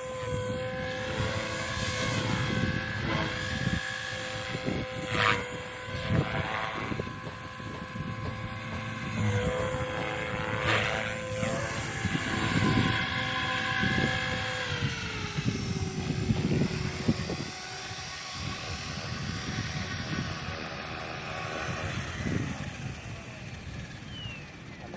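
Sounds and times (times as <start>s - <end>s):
propeller aircraft droning: 0.0s - 24.9s
wind buffeting microphone: 0.0s - 24.9s.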